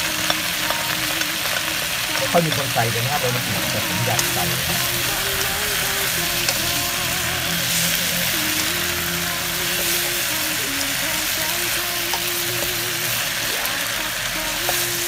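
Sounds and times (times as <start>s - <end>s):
spatula ticking: 0.0s - 15.0s
stir-fry sizzling in pan: 0.0s - 15.0s.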